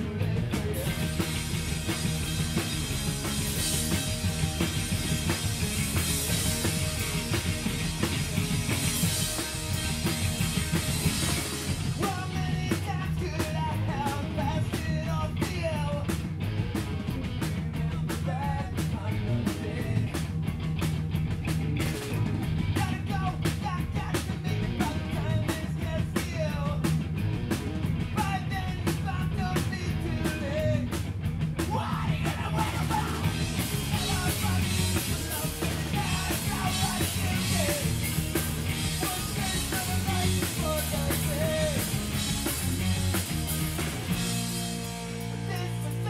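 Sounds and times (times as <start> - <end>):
rock band playing live: 0.0 - 46.0.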